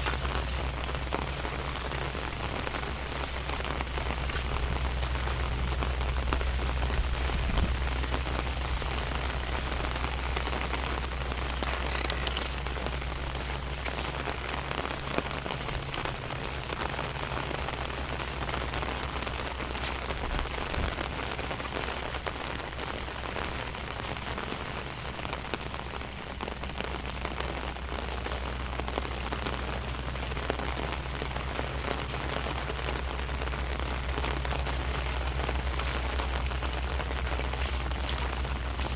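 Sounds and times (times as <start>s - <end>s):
low rumble: 0.0s - 38.9s
rain falling: 0.0s - 38.9s
raindrops ticking: 0.0s - 38.9s.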